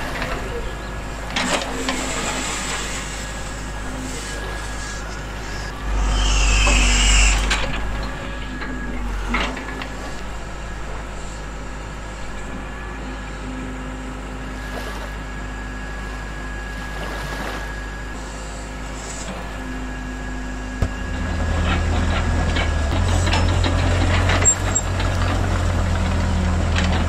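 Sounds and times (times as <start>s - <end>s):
model excavator motor hum: 0.0s - 27.0s.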